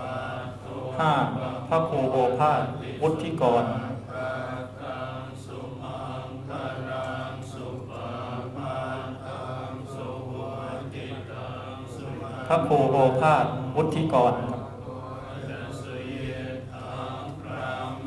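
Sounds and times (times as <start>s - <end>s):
chanting in repeated phrases: 0.0s - 18.0s.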